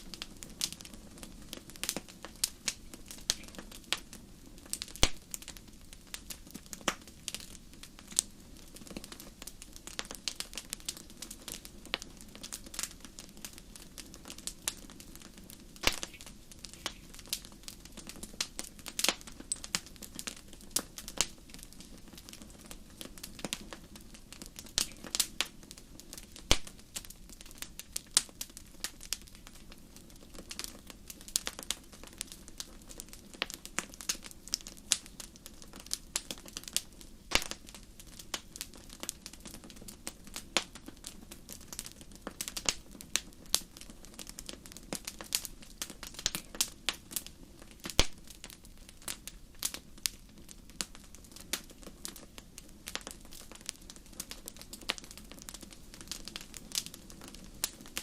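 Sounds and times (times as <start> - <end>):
low rush of flames: 0.0 - 58.0
wood fire crackling and popping: 0.0 - 58.0.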